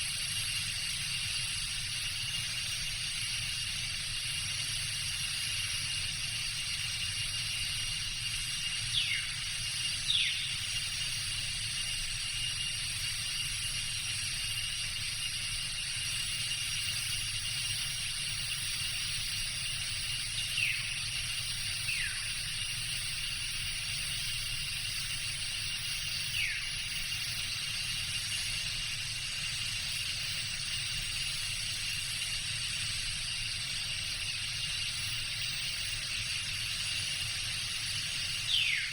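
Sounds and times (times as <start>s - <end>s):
high-pitched insect drone: 0.0s - 38.9s
thin steady whine: 0.0s - 38.9s.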